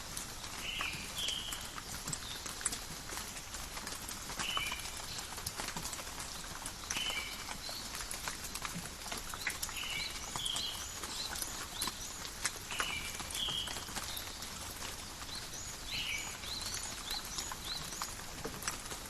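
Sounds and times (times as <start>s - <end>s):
rain falling in a forest: 0.0s - 19.0s.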